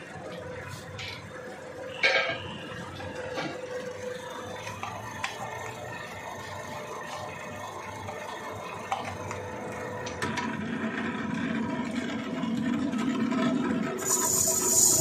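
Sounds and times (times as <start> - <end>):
boring machine hum: 0.0 - 15.0.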